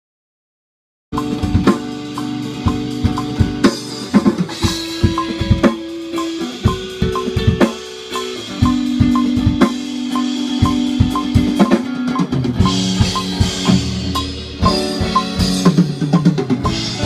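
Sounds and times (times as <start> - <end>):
drum kit kick and snare: 1.1 - 17.0
band playing: 1.2 - 17.0.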